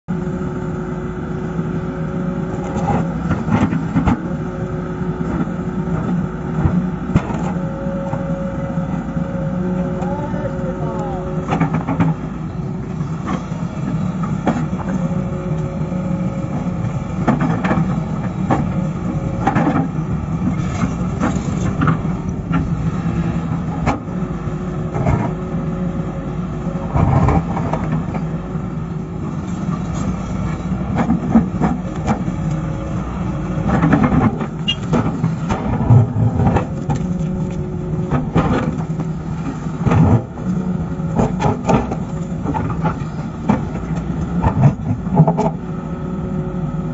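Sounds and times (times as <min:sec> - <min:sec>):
excavator engine running: 0:00.1 - 0:46.9.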